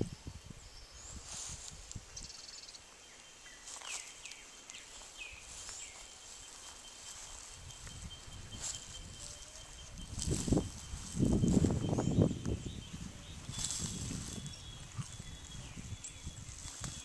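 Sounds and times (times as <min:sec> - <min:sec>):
thin high insect-like tone: 0:00.3 - 0:17.0.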